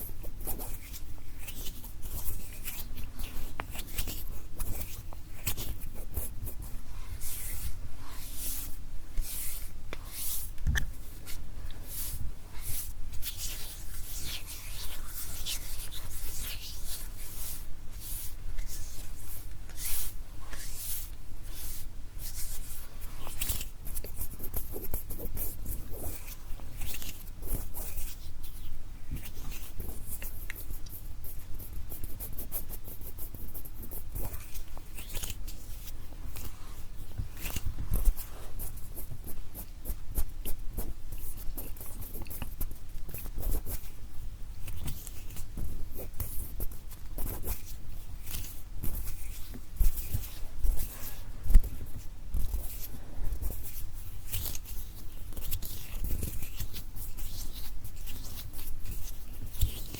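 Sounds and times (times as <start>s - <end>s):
hands rubbing and brushing: 0.0s - 59.9s.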